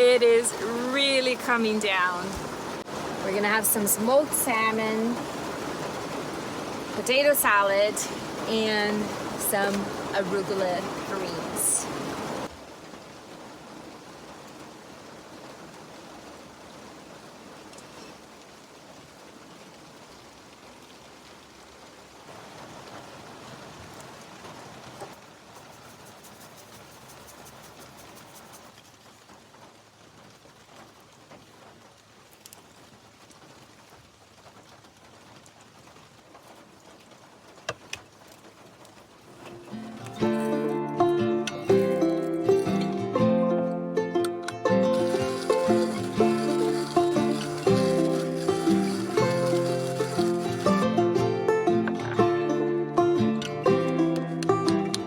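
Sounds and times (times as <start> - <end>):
steady rain hiss: 0.0 - 43.3, 44.6 - 51.9.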